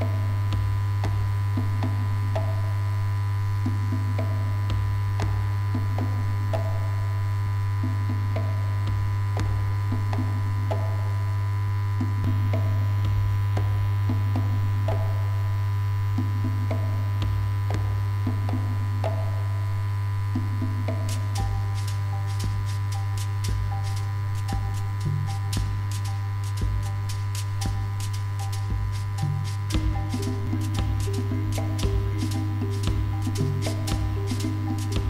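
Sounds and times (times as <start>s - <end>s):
low electrical hum: 0.0s - 35.0s
soft pulses: 0.0s - 35.0s.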